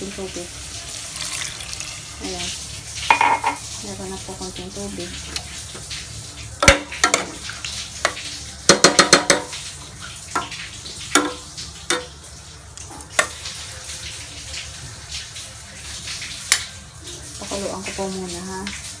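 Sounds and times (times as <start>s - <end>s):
pork sizzling: 0.0s - 19.0s.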